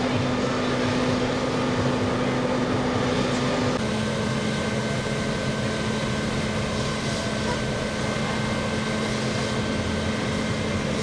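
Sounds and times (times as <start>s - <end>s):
fire truck engine humming: 0.0s - 11.0s.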